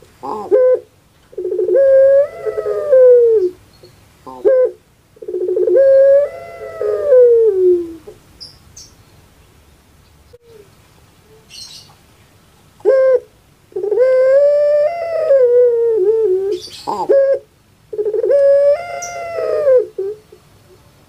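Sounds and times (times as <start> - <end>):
dove cooing: 0.0 - 3.6, 4.2 - 8.2, 10.3 - 11.9, 12.8 - 20.8.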